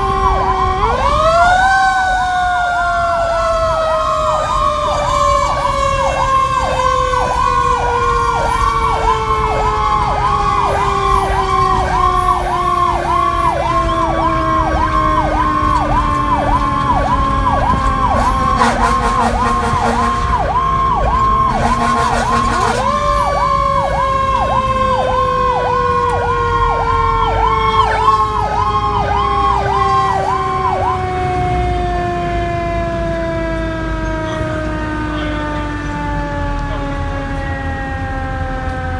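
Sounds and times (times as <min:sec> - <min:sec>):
siren electronic yelp: 0:00.0 - 0:38.9
siren falling wail: 0:00.0 - 0:38.9
siren rapid pulsing: 0:00.0 - 0:38.9.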